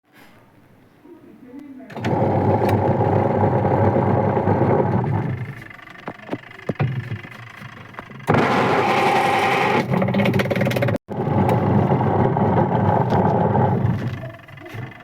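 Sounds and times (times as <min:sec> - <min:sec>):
washing machine motor running: 0:01.9 - 0:15.0.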